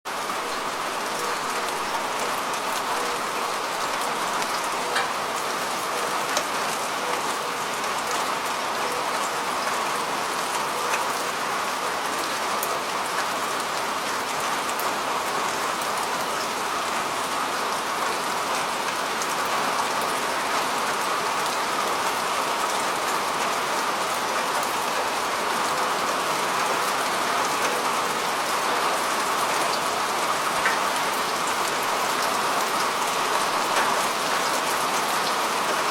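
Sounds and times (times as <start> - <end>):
rain pattering on a rooftop: 0.1 - 35.9.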